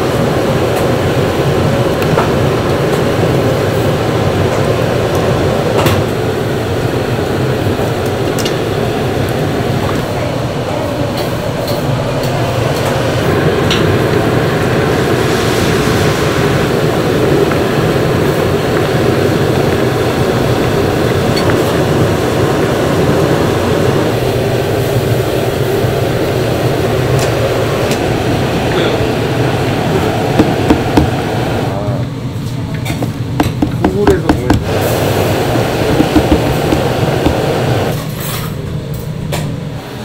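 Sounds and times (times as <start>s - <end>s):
gas burner rushing: 0.0s - 40.0s.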